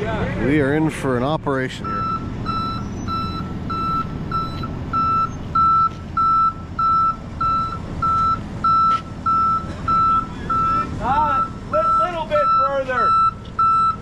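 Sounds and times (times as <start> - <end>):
truck engine rumbling: 0.0 - 14.0
truck reversing alarm beeping: 1.8 - 14.0.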